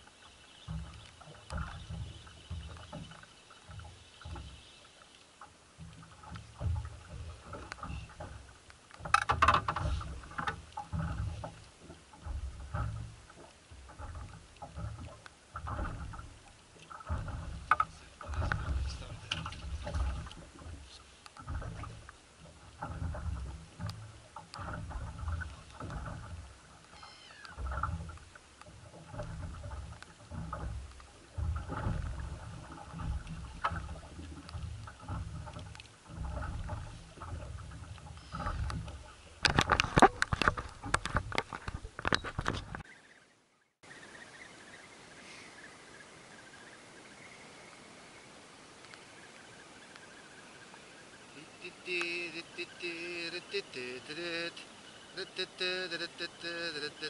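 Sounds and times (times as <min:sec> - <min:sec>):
water lapping against boat hull: 0:00.0 - 0:43.2, 0:48.4 - 0:57.0.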